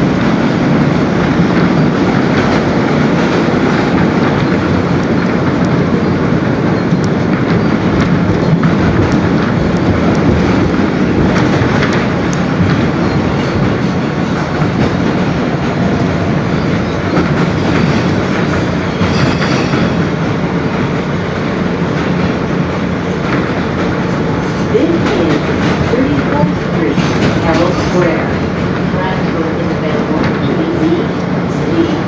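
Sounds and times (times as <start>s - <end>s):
clacks over rail joints: 0.0s - 32.0s
wheels rumbling on rail: 0.0s - 32.0s.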